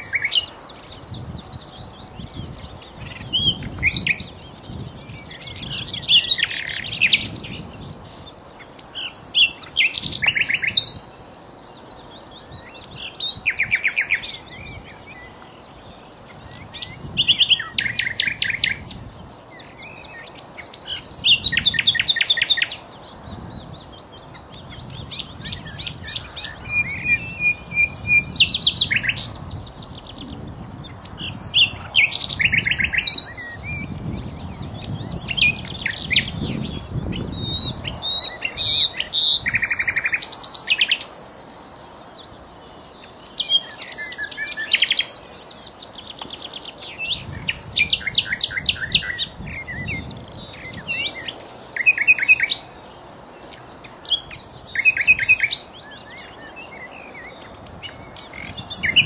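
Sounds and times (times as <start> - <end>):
nightingale singing: 0.0 - 59.0.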